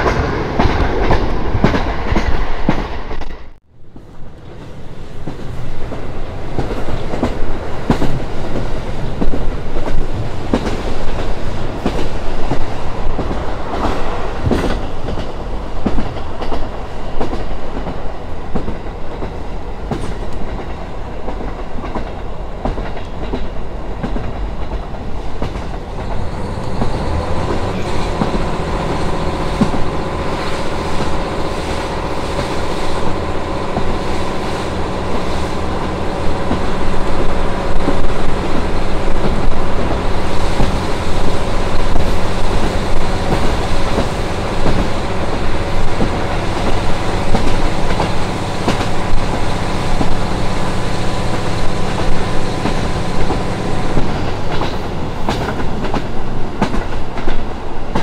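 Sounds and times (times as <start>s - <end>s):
wheels clacking over rail joints: 0.0s - 34.4s, 35.0s - 58.0s
train running rumble: 0.0s - 58.0s.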